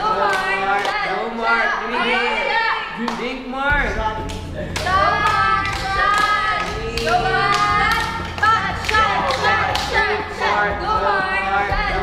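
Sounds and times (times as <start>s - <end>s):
rhythmic clapping: 0.0s - 2.2s, 2.9s - 12.0s
young people cheering and chanting: 0.0s - 12.0s.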